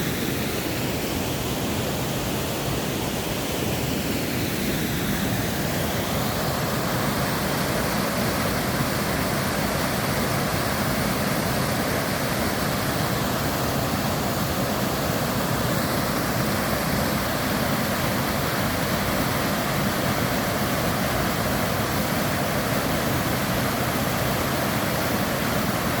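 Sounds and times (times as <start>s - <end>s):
waterfall roar: 0.0s - 26.0s.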